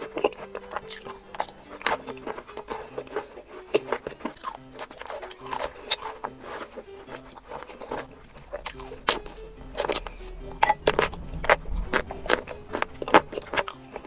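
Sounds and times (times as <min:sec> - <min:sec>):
chocolate crunching and chewing: 0:00.0 - 0:14.0
soft background music: 0:00.0 - 0:14.0.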